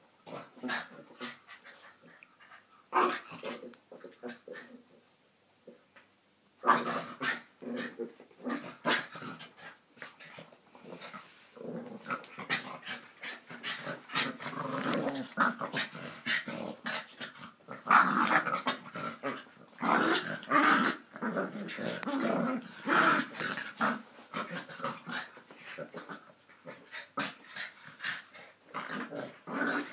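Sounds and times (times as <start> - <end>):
dogs growling and snarling: 0.2 - 4.9, 6.6 - 29.9.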